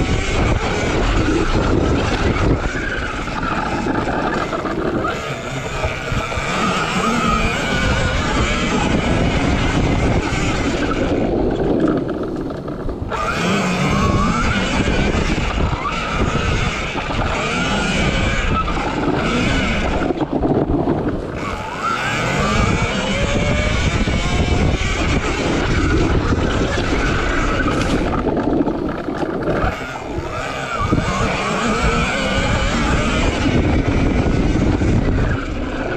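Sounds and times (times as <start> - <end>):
electric motor whine: 0.0 - 35.9.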